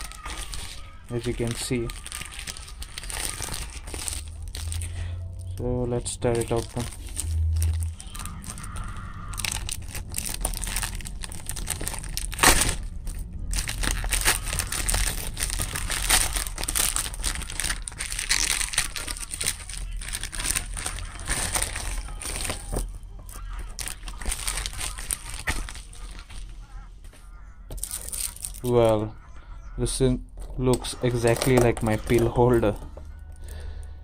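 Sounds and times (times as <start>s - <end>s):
plastic bag tearing and crinkling: 0.0s - 26.5s, 27.7s - 28.8s, 31.0s - 32.8s.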